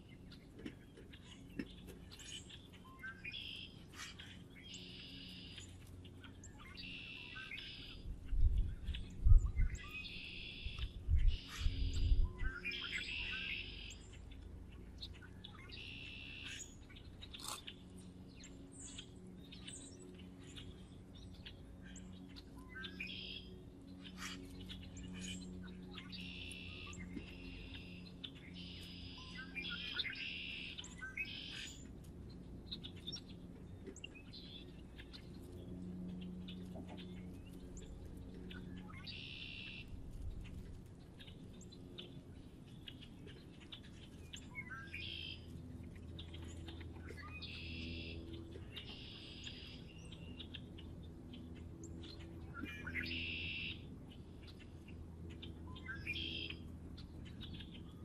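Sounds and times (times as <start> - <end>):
faint low hum: 0.0 - 58.0
songbirds chirping: 0.0 - 58.0.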